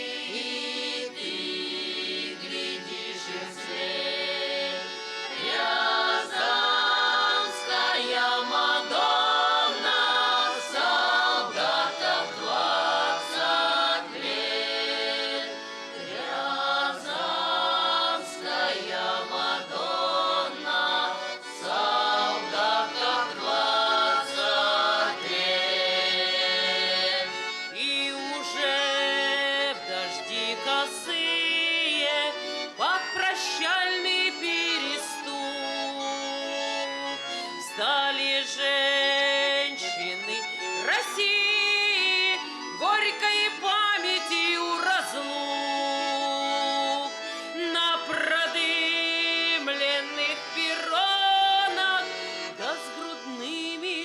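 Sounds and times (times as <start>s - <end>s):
accordion music: 0.0s - 54.0s.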